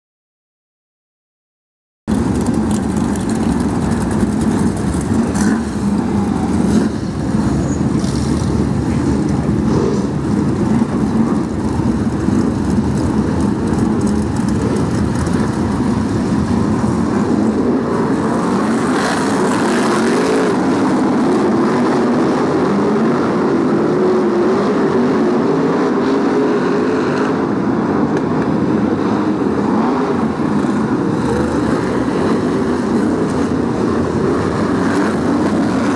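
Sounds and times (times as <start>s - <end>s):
stock car engines racing: 2.1s - 35.9s.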